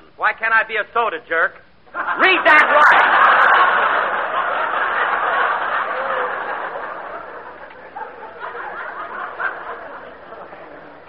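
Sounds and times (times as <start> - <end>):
audience laughing: 1.9 - 11.0.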